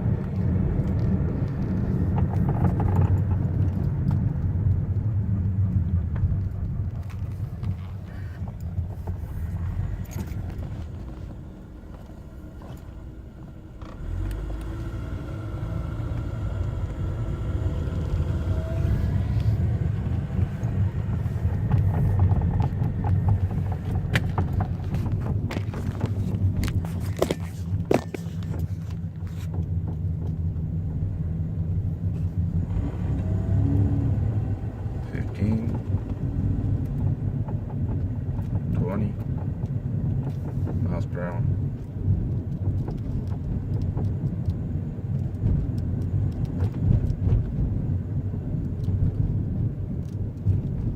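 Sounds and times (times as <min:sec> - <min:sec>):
road and drivetrain rumble: 0:00.0 - 0:50.9.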